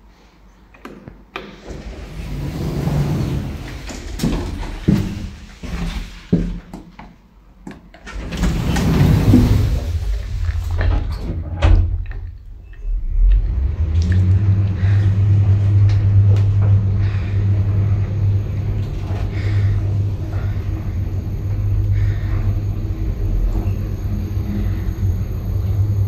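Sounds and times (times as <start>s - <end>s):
lift doors closing: 1.4s - 6.7s, 8.0s - 26.0s
lift car humming: 1.6s - 6.7s, 8.0s - 26.0s.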